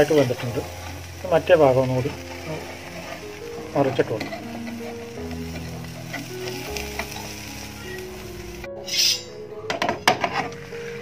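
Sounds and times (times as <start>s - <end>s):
omelette sizzling in a pan: 0.0s - 9.3s.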